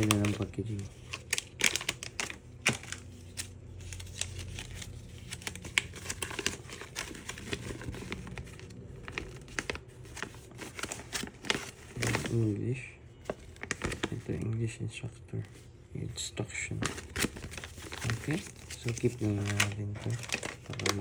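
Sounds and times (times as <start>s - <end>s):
packaging tearing: 0.0s - 12.5s, 13.2s - 14.4s, 16.7s - 21.0s
packaging crinkling and crackling: 0.0s - 14.6s, 15.3s - 21.0s.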